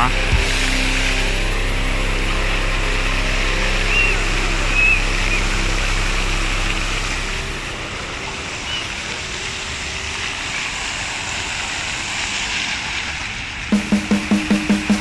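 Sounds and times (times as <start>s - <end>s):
fountain water splashing: 0.0s - 13.8s.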